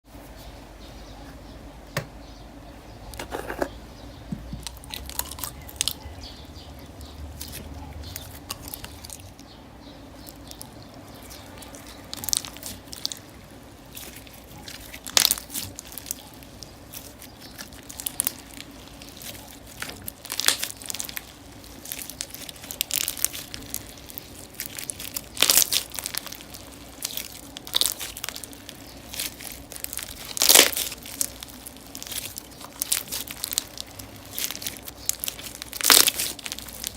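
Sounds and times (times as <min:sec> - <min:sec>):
slime crackling and squishing: 0:04.6 - 0:36.9.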